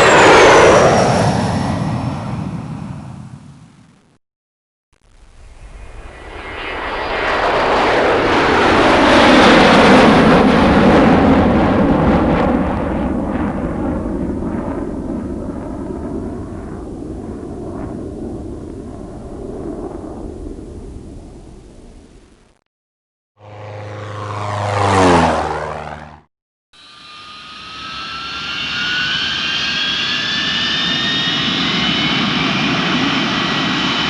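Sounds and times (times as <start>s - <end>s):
airplane flying overhead: 0.0s - 3.9s, 5.4s - 22.4s, 23.4s - 34.0s.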